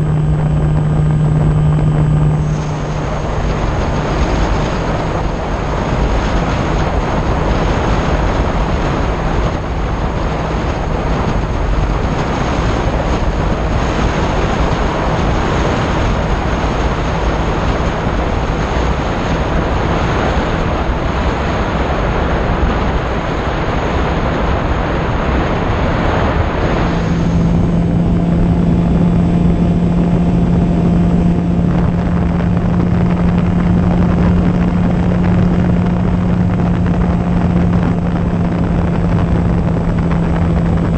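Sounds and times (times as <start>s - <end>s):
air rushing past: 0.0s - 40.9s
electric motor and propeller hum: 0.0s - 40.9s
faint high whine: 0.0s - 40.9s.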